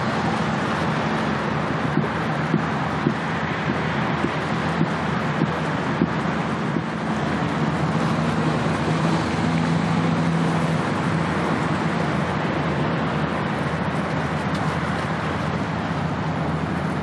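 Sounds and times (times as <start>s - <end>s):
low engine drone: 0.0s - 17.0s
water noise: 0.0s - 17.0s
wind: 0.0s - 17.0s.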